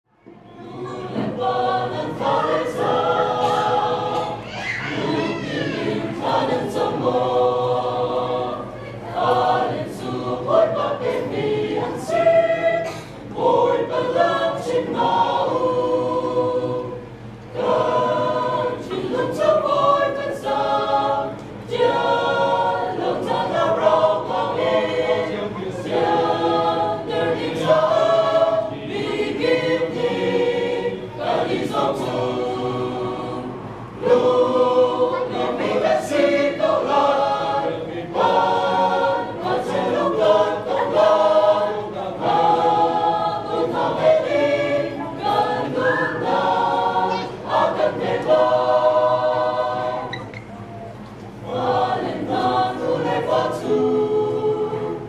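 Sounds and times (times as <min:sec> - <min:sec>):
mixed choir singing a hymn: 0:00.2 - 0:55.0.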